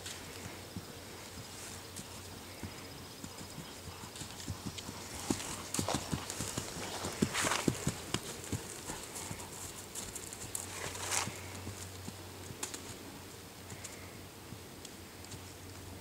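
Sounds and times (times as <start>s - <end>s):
horse hoofbeats on grass: 0.0s - 16.0s.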